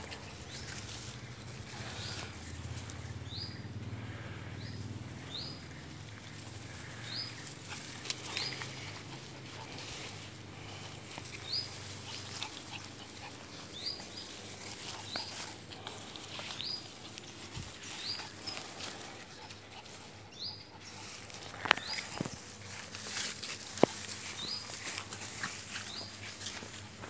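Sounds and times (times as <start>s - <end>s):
dogs sniffing through grass: 0.0s - 27.0s.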